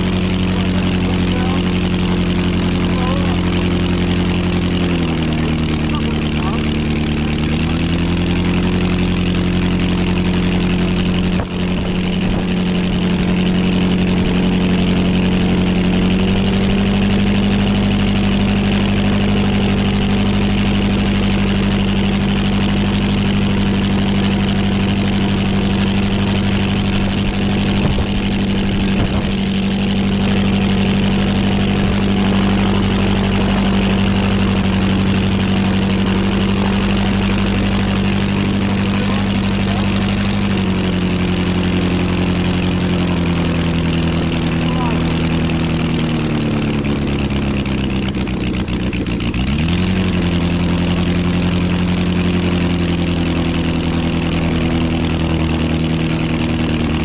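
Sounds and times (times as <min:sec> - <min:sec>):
propeller aero engine running: 0:00.0 - 0:57.0.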